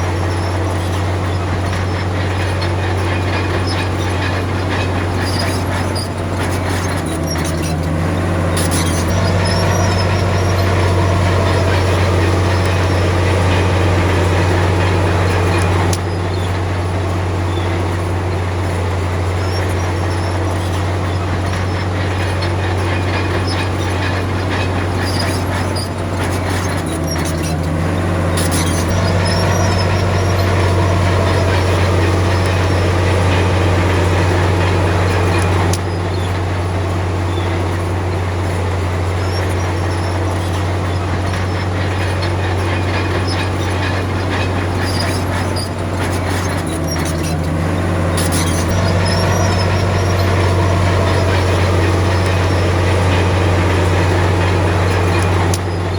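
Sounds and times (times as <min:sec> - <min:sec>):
metal clanks: 0:00.0 - 0:16.7, 0:19.4 - 0:36.5, 0:37.1 - 0:55.9
bulldozer diesel engine under load: 0:00.0 - 0:55.9.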